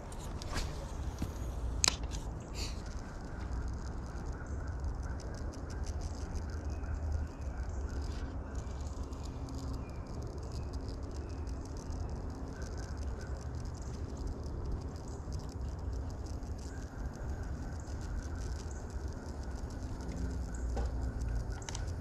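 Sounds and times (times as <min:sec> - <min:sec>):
fishing reel ticking: 0:00.9 - 0:22.0.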